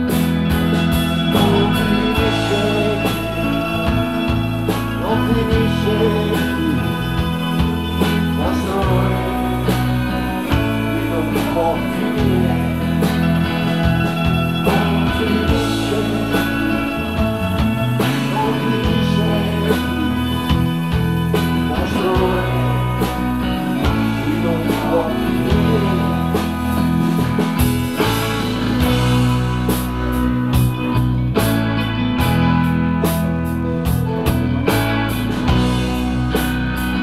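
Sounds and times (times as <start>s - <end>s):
drum kit: 0.0s - 37.0s
electric bass: 0.0s - 37.0s
electric guitars: 0.0s - 37.0s.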